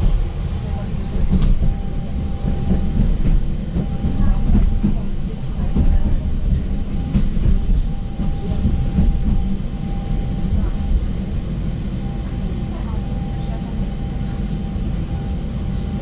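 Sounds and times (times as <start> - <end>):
thin steady whine: 0.0 - 16.0
wheels rumbling on track: 0.0 - 16.0.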